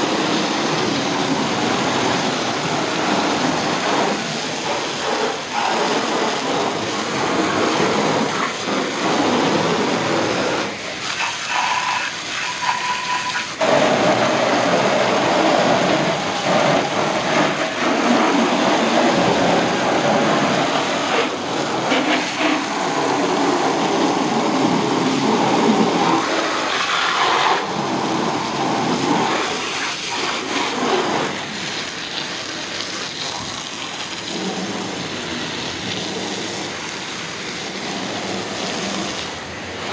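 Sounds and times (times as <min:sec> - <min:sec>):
water jet spraying on truck: 0:00.0 - 0:39.9.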